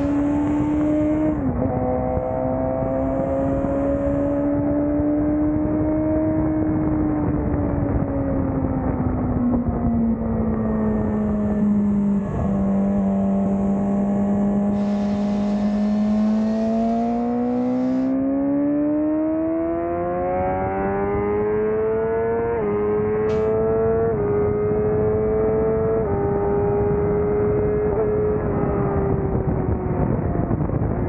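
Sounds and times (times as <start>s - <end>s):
motorcycle engine revving: 0.0s - 30.8s.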